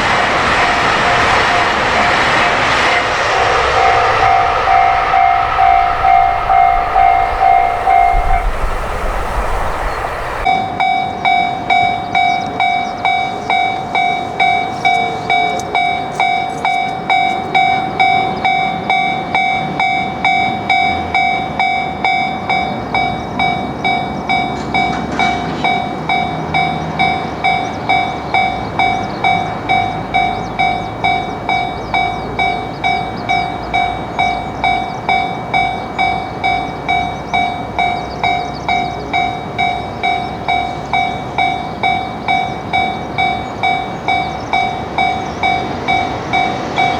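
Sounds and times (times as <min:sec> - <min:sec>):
rushing train noise: 0:00.0 - 0:46.9
level crossing bell clanging: 0:04.2 - 0:08.8, 0:10.4 - 0:46.9.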